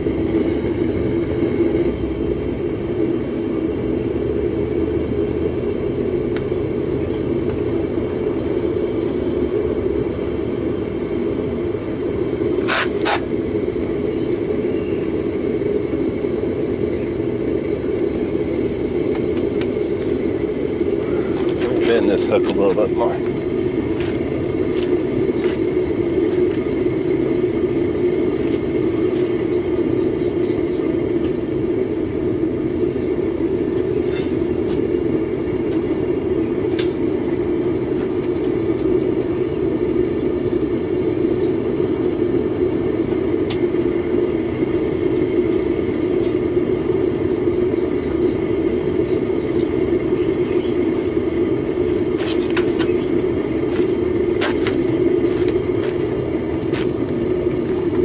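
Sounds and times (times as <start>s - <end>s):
propane burner roaring: 0.0s - 58.0s.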